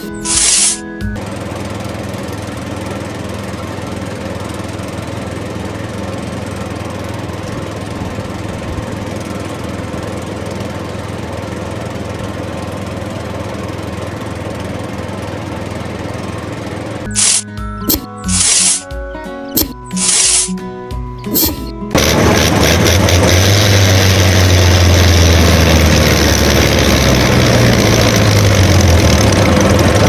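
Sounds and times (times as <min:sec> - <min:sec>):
small motor humming and rattling: 0:00.0 - 0:30.0.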